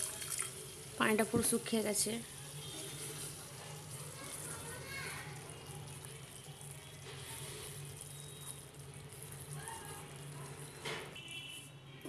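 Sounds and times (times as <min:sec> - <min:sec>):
curry sizzling and bubbling: 0:00.0 - 0:12.0
spatula stirring in pan: 0:02.0 - 0:11.8.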